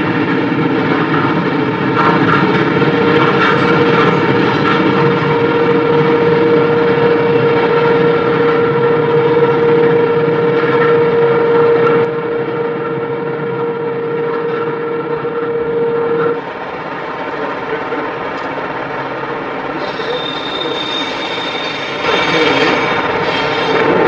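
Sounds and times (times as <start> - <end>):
constant high whining tone: 0.0 - 24.0
train wheels rumbling on rails: 0.0 - 24.0.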